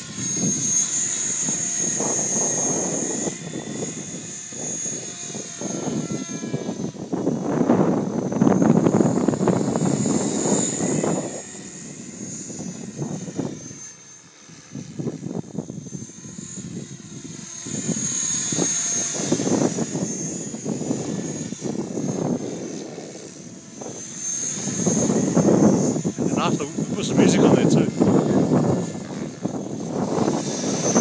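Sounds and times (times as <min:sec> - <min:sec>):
helicopter rotor noise: 0:00.0 - 0:31.0
rc helicopter motor whine: 0:00.0 - 0:31.0.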